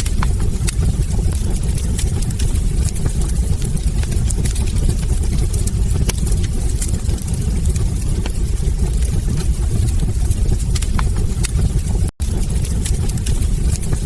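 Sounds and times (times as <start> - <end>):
burning logs crackling and popping: 0.0 - 14.0
fire rumbling: 0.0 - 14.0.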